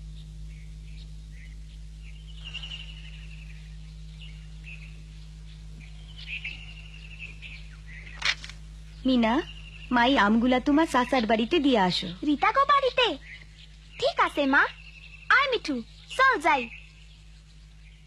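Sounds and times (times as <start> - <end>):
steady low hum: 0.0 - 18.0
bird trills: 0.1 - 18.0
bird chirps: 0.2 - 18.0.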